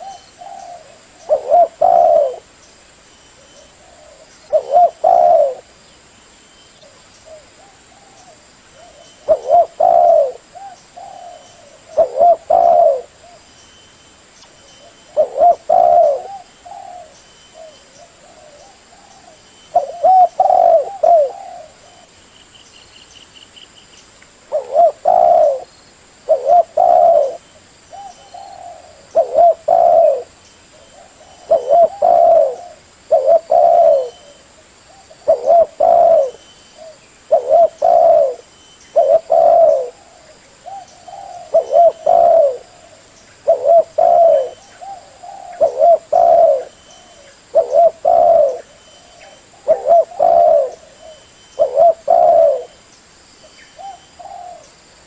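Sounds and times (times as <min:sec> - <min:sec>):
dove cooing: 0:00.0 - 0:02.5, 0:03.4 - 0:05.8, 0:06.8 - 0:13.5, 0:14.8 - 0:22.1, 0:24.4 - 0:52.8, 0:53.8 - 0:54.7.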